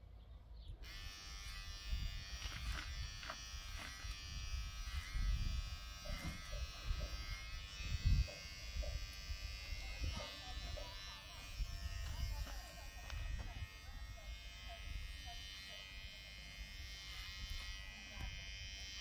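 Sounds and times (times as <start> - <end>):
electrical buzz: 0.8 - 19.0.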